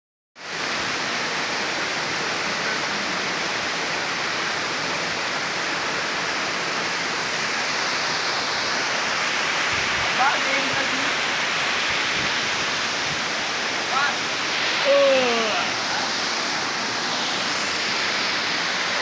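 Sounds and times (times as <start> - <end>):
waterfall roaring: 0.5 - 19.0.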